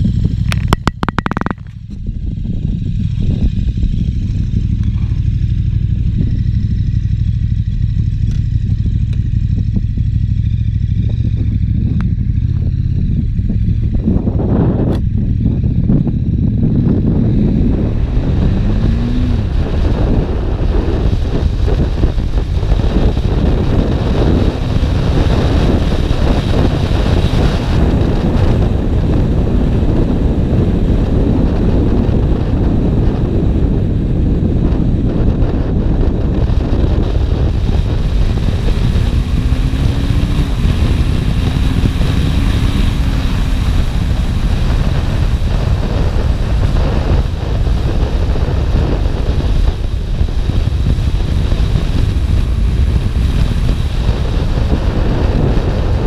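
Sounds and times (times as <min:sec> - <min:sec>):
motorcycle engine: 0:00.0 - 0:56.0
wind buffeting microphone: 0:00.0 - 0:56.0.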